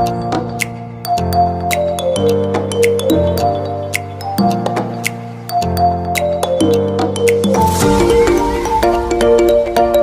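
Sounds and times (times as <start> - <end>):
background music with percussive beat: 0.0 - 10.0.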